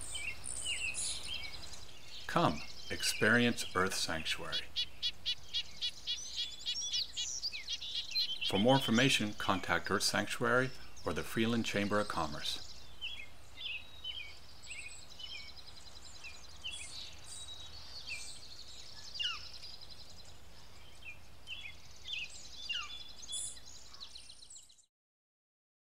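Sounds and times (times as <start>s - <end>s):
songbirds singing: 0.0s - 24.9s.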